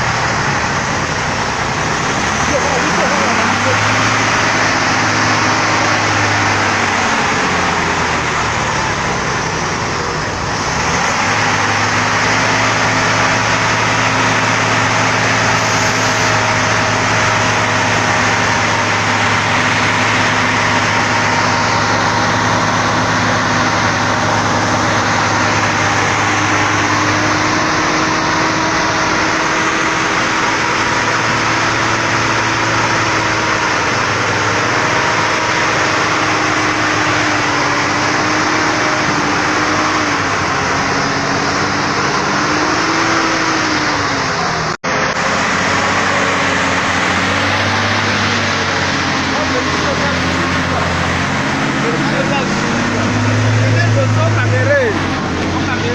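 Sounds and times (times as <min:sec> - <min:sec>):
truck engine running: 0:00.0 - 0:55.9.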